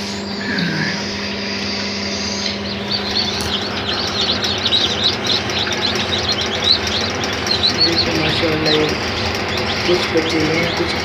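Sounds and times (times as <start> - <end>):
steady low hum: 0.0 - 11.0
chicks peeping: 0.2 - 11.0.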